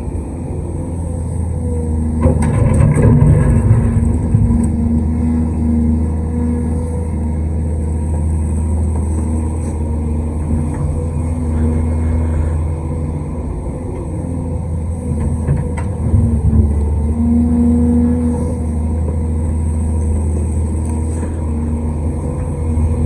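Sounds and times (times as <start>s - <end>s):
excavator diesel engine running: 0.0s - 23.0s
hydraulic whine: 0.0s - 23.0s.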